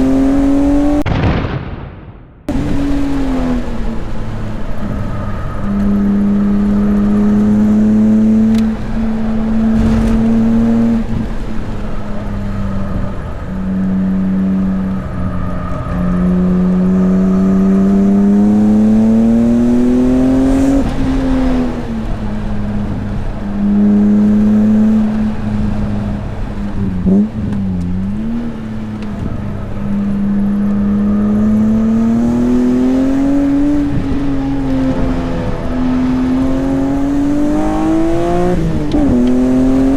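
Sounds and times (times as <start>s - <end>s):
car engine accelerating hard: 0.0s - 1.0s, 2.5s - 39.9s.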